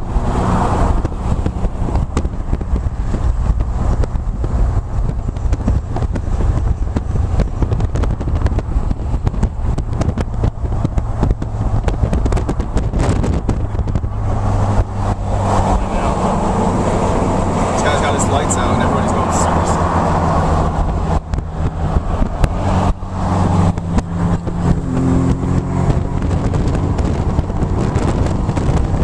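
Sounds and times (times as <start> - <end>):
car engine drone: 0.0 - 29.0
road and wind noise: 0.0 - 29.0.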